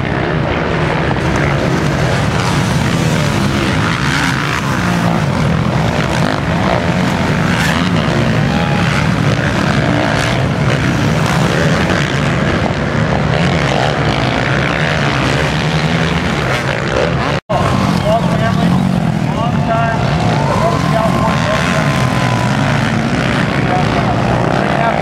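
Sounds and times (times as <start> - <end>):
dirt bike engines droning: 0.0 - 25.0.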